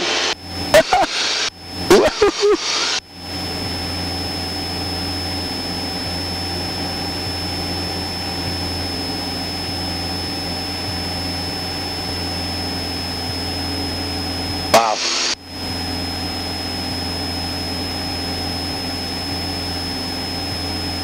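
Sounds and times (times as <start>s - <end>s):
aircraft engine and propeller drone: 0.0s - 21.0s
thin high whine: 0.0s - 21.0s.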